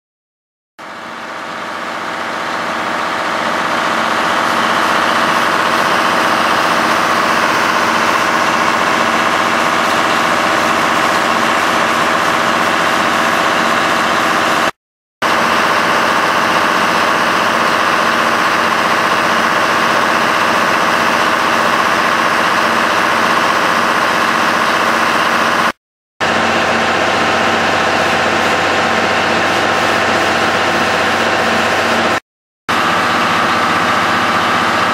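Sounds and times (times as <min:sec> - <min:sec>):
diesel engine idling hum: 0:00.8 - 0:32.1, 0:32.7 - 0:34.9.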